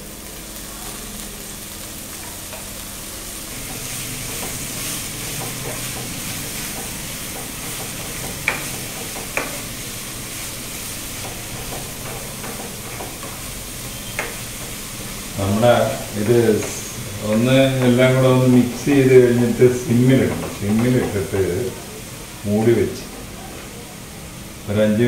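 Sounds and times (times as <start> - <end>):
greens sizzling in hot oil: 0.0 - 23.3.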